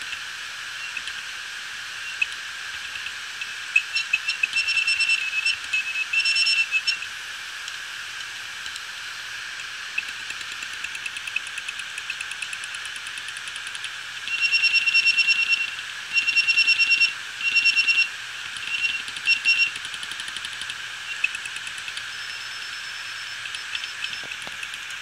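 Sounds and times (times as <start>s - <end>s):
hard drive spindle whir: 0.0s - 25.0s
hard drive head chirping and clicking: 0.8s - 1.3s, 2.0s - 9.0s, 9.6s - 25.0s.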